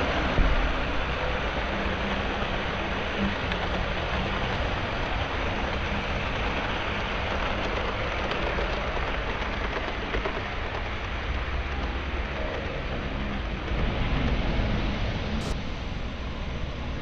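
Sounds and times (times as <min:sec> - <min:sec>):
model train rolling rumble: 0:00.0 - 0:17.0.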